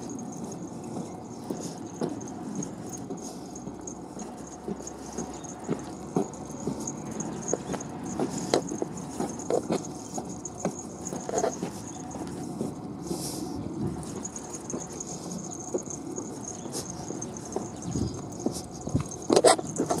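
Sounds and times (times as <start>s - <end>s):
dog paws pattering on asphalt: 0.0s - 20.0s.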